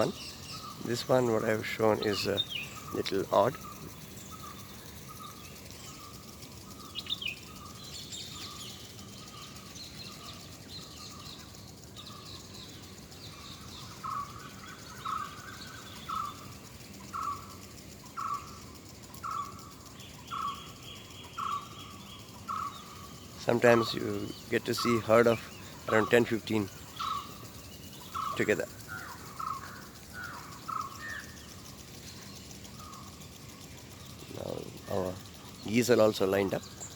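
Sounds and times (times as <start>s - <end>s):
high bird chirps: 0.0s - 36.9s.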